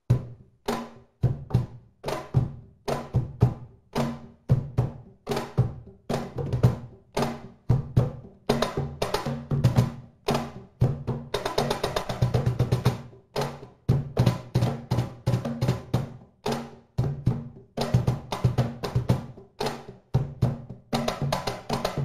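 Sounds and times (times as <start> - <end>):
cajon drumming: 0.1 - 22.0.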